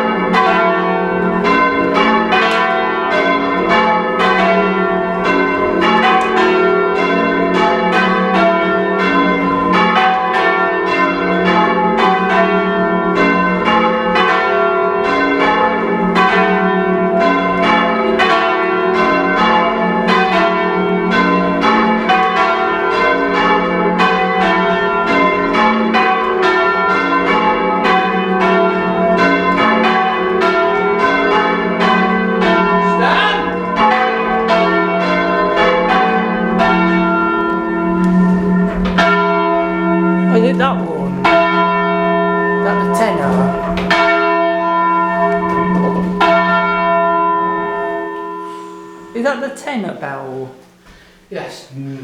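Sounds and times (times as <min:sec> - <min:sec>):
church bells ringing: 0:00.0 - 0:50.2.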